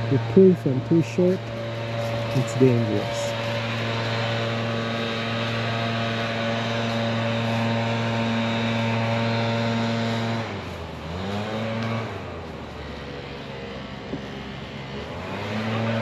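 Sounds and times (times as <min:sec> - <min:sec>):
engine running high pitch: 0:00.0 - 0:16.0.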